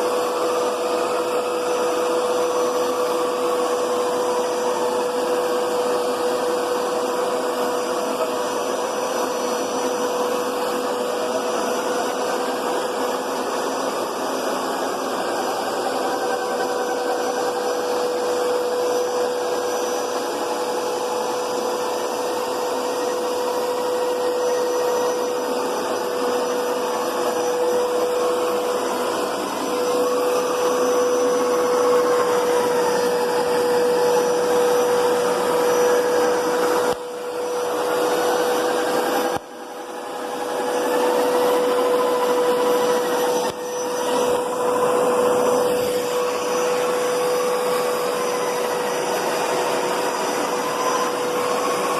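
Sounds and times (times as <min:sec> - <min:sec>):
carpet cleaner running: 0:00.0 - 0:51.9.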